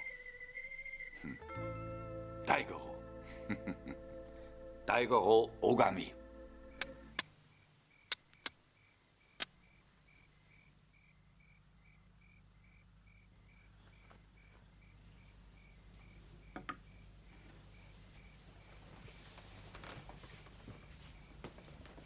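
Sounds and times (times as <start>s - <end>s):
cricket chirping: 0.0s - 1.5s, 3.1s - 18.8s, 20.7s - 21.5s.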